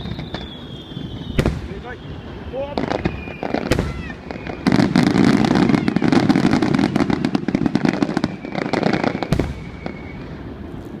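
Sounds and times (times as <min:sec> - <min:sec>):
firework bang: 0:00.0 - 0:11.0
fireworks crackling: 0:00.0 - 0:11.0.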